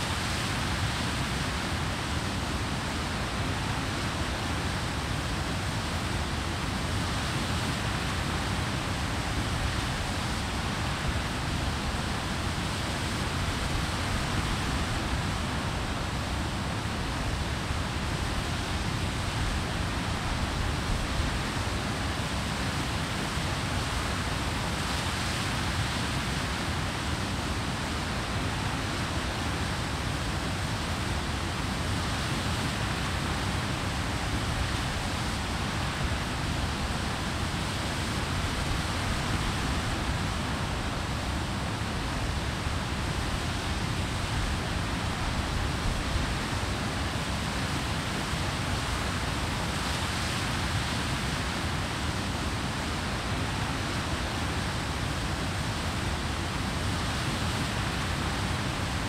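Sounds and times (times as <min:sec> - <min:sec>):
water rushing over weir: 0:00.0 - 0:59.0.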